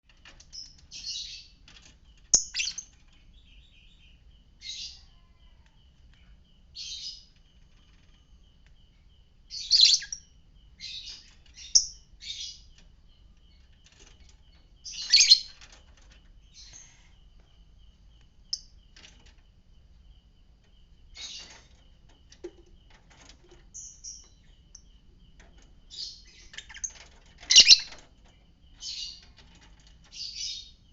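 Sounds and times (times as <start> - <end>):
bird chirping: 0.1 - 30.9.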